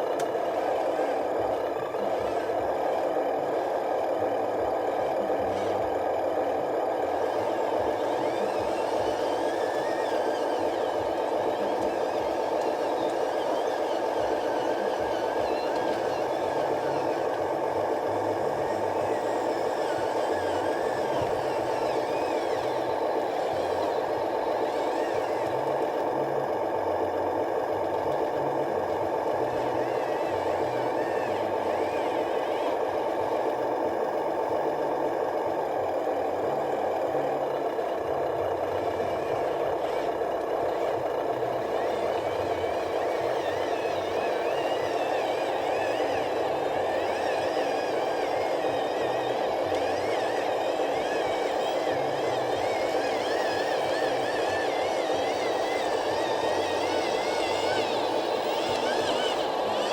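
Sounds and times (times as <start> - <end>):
remote-control truck motor whining: 0.0 - 59.9.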